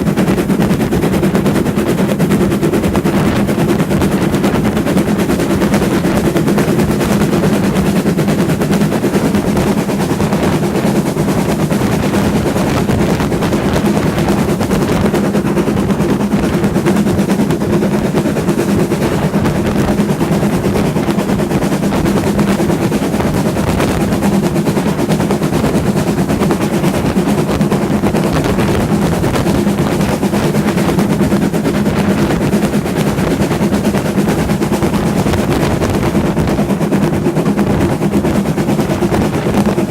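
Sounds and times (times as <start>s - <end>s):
train rumbling and rattling: 0.0s - 39.9s.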